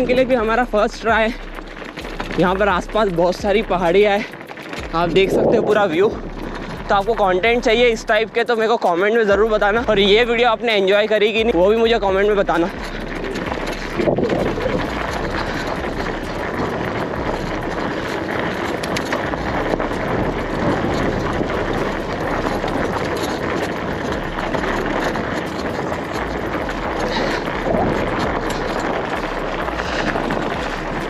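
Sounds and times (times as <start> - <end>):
wind on microphone: 0.0 - 8.2, 11.4 - 31.0
bicycle tyres crunching on gravel: 0.0 - 31.0.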